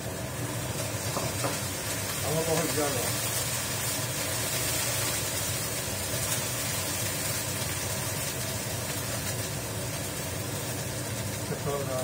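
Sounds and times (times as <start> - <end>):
range hood fan humming: 0.0 - 12.0.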